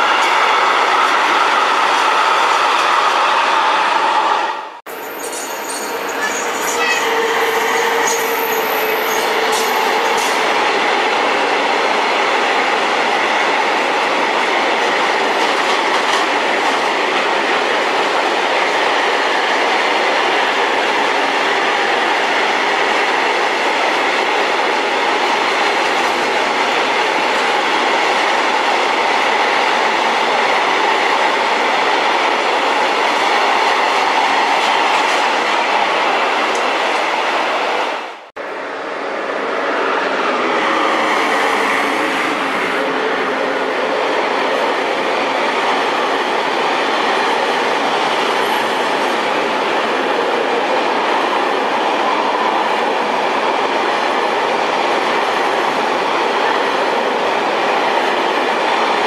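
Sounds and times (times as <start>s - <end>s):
electric locomotive passing: 0.0s - 37.8s, 38.4s - 59.0s
freight train wheels on rails: 0.0s - 59.0s.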